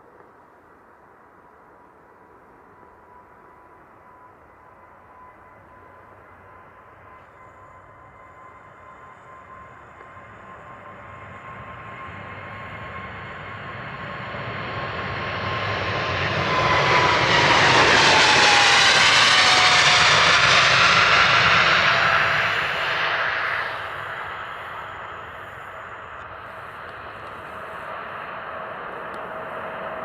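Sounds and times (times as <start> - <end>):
jet engines at takeoff power: 0.0 - 30.0.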